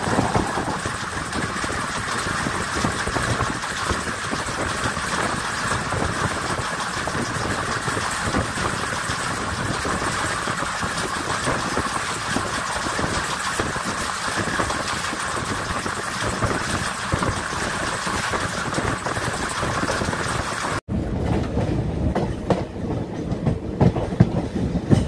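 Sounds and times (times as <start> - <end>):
moving train rumbling: 0.0 - 25.0.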